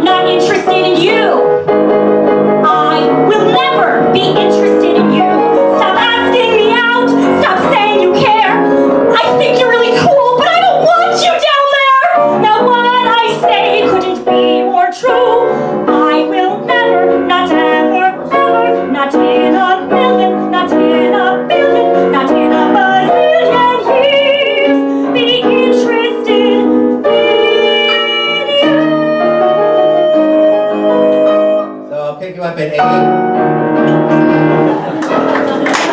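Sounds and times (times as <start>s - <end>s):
woman singing: 0.0s - 1.5s, 2.6s - 31.8s
piano accompaniment: 0.0s - 35.9s.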